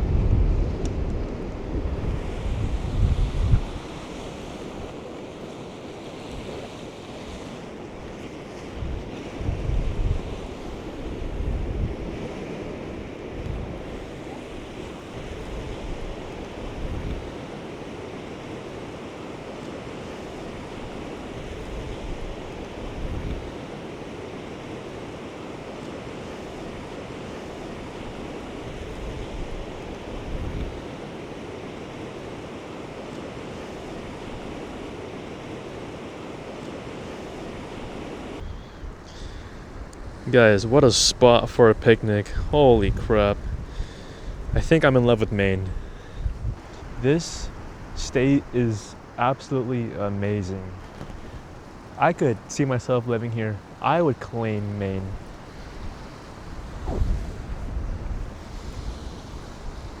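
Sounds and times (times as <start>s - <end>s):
surf washing against rocks: 0.0s - 60.0s
wind buffeting microphone: 0.0s - 60.0s.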